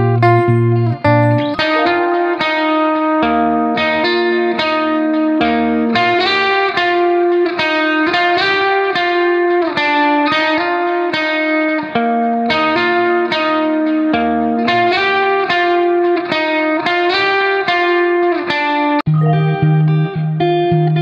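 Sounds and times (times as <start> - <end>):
plucked melody music: 0.0 - 18.5, 19.1 - 21.0.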